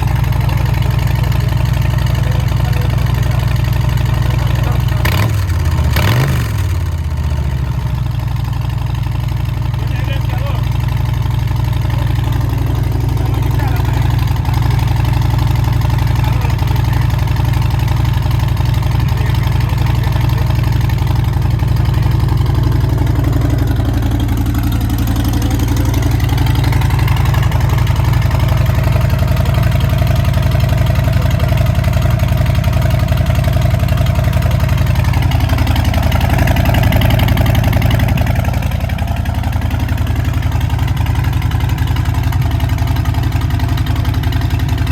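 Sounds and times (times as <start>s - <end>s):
motorcycle engine rumbling: 0.0s - 44.9s.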